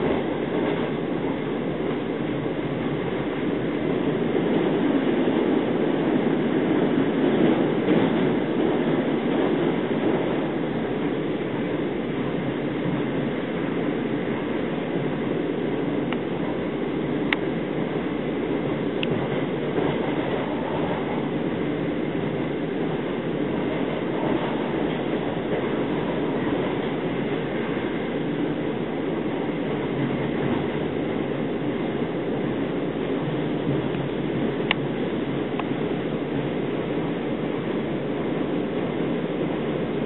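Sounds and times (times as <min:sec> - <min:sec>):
wheels rumbling on rail: 0:00.0 - 0:40.0.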